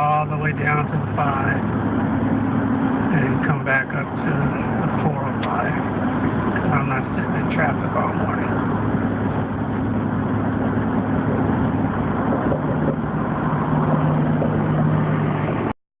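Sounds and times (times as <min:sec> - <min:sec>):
car engine hum: 0:00.0 - 0:15.8
road and wind noise: 0:00.0 - 0:15.8.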